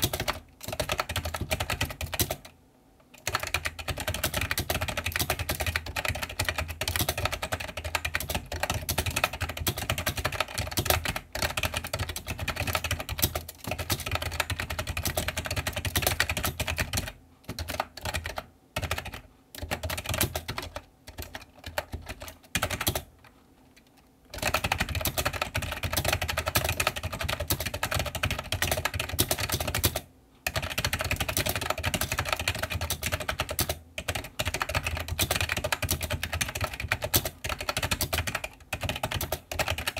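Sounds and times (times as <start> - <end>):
fast typing on a keyboard: 0.0 - 23.2, 24.3 - 39.9.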